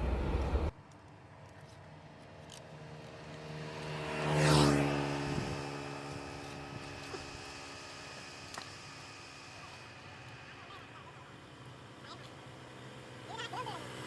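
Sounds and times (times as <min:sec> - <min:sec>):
motor vehicle passing by: 0:01.8 - 0:14.0.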